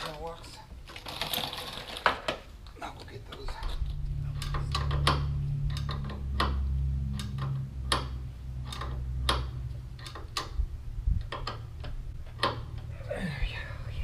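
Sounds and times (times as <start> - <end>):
low hum: 2.7 - 14.0.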